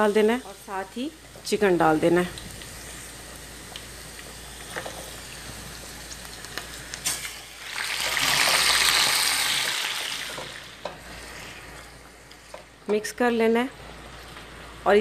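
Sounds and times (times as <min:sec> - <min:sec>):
chicken sizzling in hot oil: 0:00.0 - 0:12.7.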